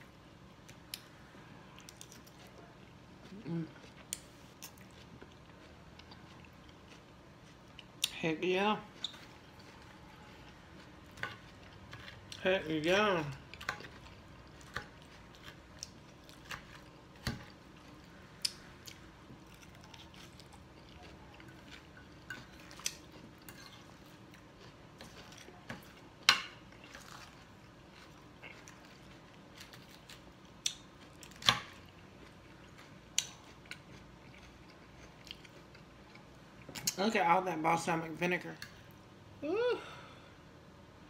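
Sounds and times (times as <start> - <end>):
soft chewing: 0.5 - 37.0.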